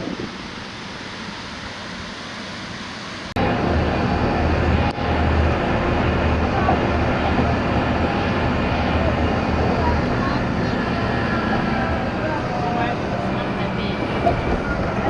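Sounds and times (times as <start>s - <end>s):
engine drone with low hum: 0.0s - 15.0s
rush of wind or water: 0.0s - 15.0s.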